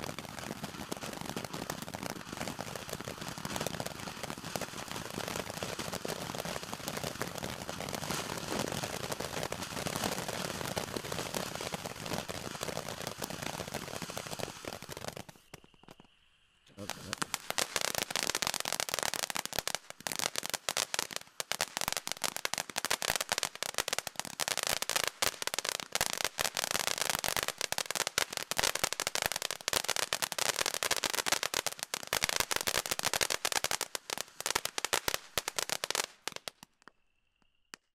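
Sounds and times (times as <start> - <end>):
firework fountain crackling: 0.0 - 16.1, 16.7 - 36.9.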